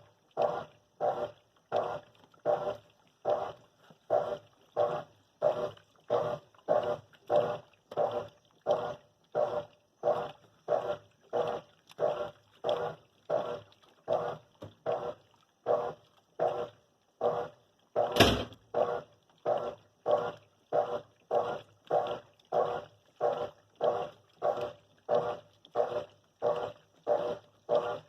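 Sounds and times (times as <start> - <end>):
washing machine agitating: 0.0 - 28.0.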